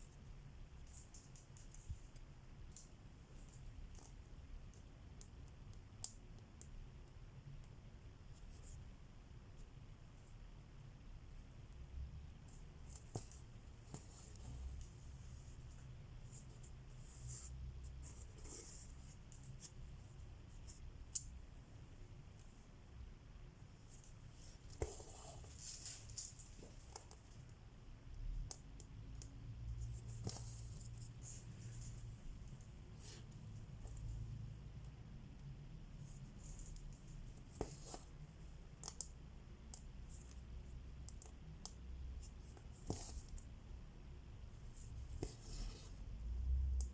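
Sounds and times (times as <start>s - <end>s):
low steady hum: 0.0s - 46.9s.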